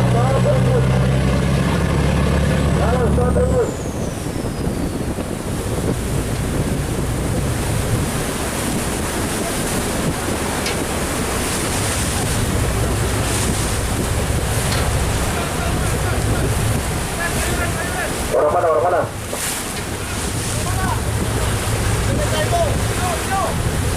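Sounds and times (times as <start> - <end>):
wind buffeting microphone: 0.0 - 18.3, 19.1 - 23.9
low engine rumble: 0.0 - 23.9
water rushing: 0.0 - 23.9.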